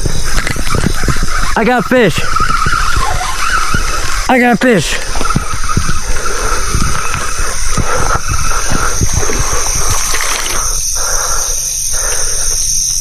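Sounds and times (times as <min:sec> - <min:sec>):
fish splashing and thrashing in water: 0:00.0 - 0:12.8.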